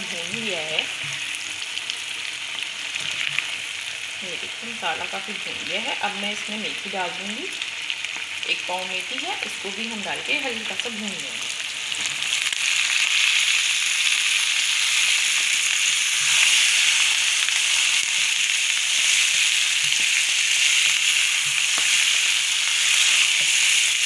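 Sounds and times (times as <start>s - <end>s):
food sizzling in a wok: 0.0s - 24.0s.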